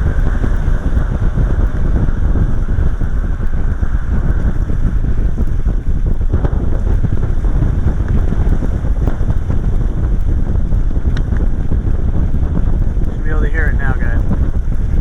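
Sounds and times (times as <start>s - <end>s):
distant rocket engine rumble: 0.0s - 15.0s
wind buffeting microphone: 0.0s - 15.0s.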